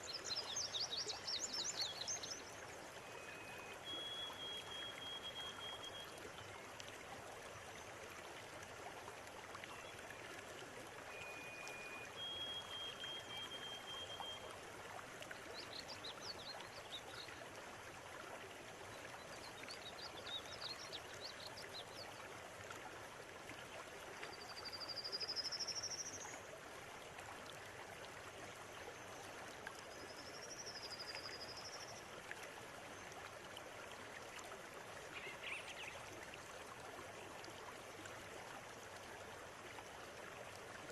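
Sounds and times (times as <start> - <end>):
river water running: 0.0 - 40.9.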